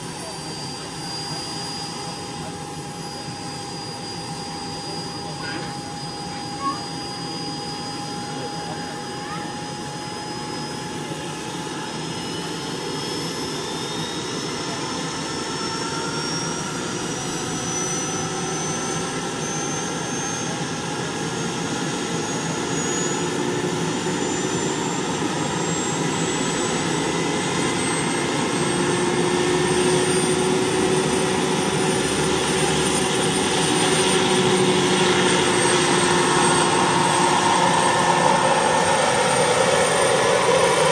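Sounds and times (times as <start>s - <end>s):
model turbine engine whining: 0.0s - 40.9s.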